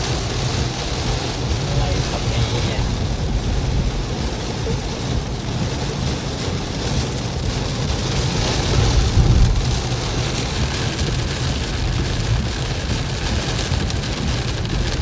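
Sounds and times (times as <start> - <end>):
heavy rain pouring: 0.0 - 15.0
low rumble: 0.0 - 15.0.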